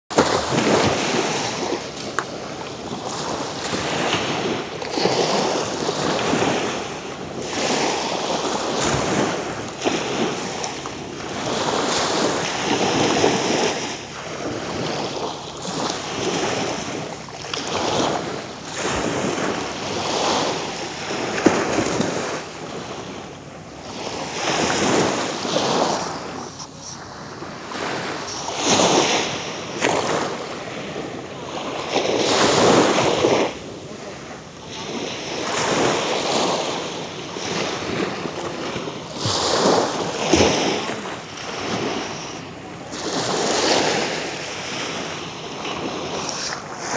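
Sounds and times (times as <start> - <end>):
small waves breaking on shore: 0.1 - 46.9.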